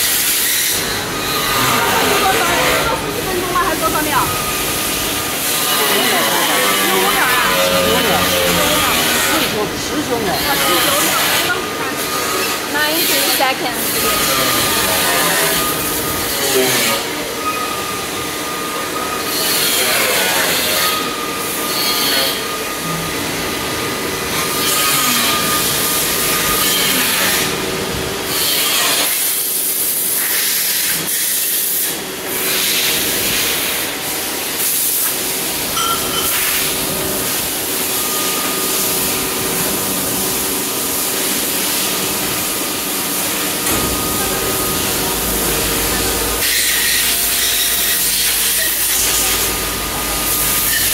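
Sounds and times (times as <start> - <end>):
lathe machine hiss and whine: 0.0 - 50.9.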